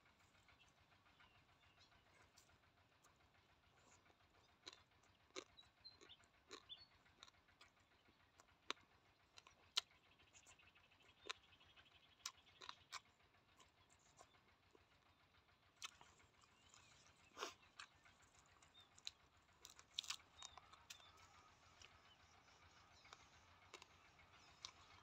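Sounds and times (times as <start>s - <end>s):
close-up chewing: 0.0s - 25.0s.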